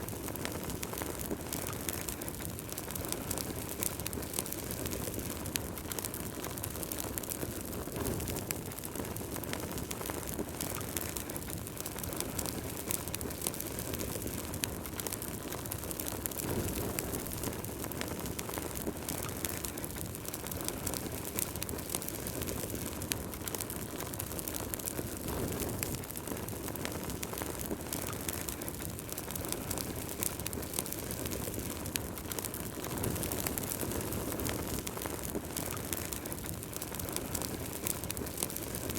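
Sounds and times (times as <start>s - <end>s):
low rush of flame: 0.0s - 38.9s
wood fire crackling and popping: 0.0s - 38.9s.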